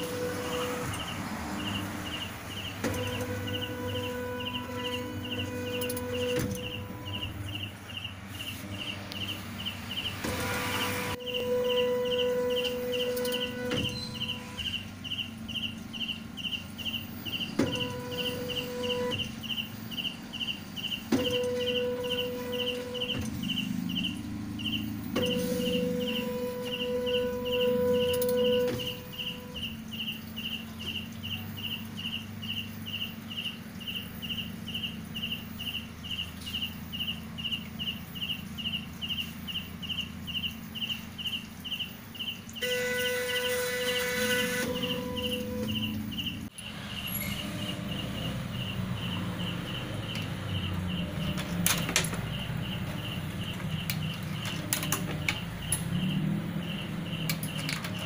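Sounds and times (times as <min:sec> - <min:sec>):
stepper motors whining: 0:00.0 - 0:41.4, 0:42.2 - 0:58.0.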